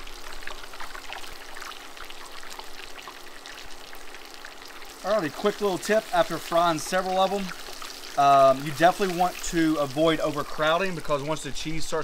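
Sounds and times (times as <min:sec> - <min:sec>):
oil crackling while frying: 0:00.0 - 0:12.0.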